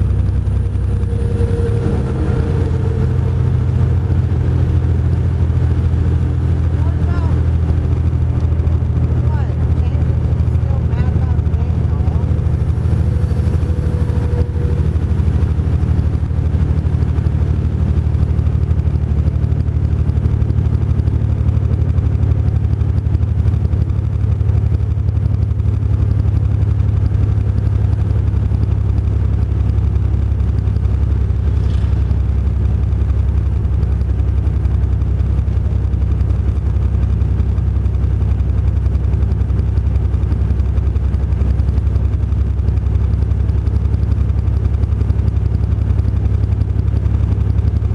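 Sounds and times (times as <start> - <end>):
truck engine droning: 0.0 - 47.9.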